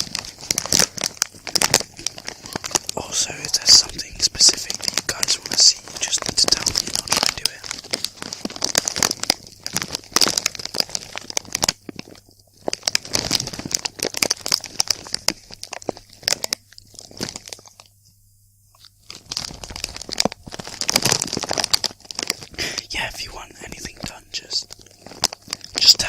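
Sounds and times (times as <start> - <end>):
crisp packet crinkling: 0.0 - 18.1, 18.7 - 26.0.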